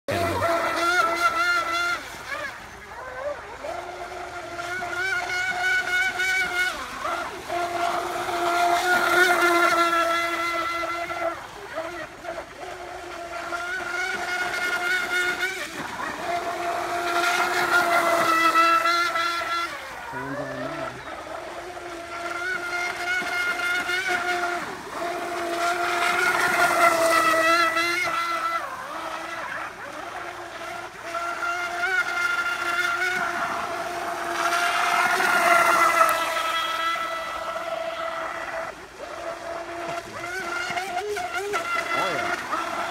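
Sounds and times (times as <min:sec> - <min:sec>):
electric boat motor whine: 0:00.1 - 0:42.9.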